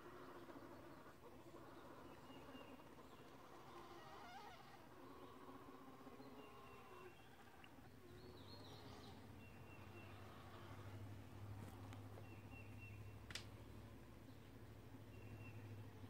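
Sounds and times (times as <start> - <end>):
faint bird chirps: 0.0 - 16.0
low steady hum: 0.0 - 16.0.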